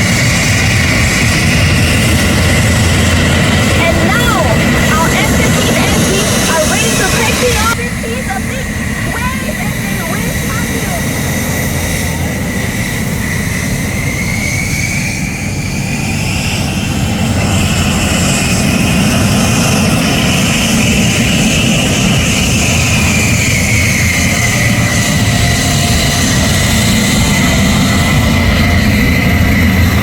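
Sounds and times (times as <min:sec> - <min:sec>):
jet engines rumbling and whining: 0:00.0 - 0:30.0.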